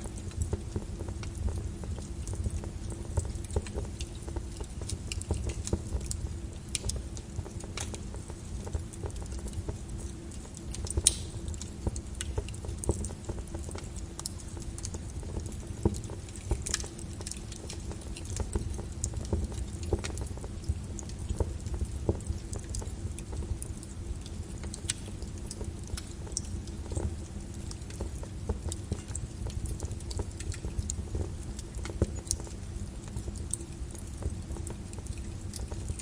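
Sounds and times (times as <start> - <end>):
lava crackling and popping: 0.0 - 36.0.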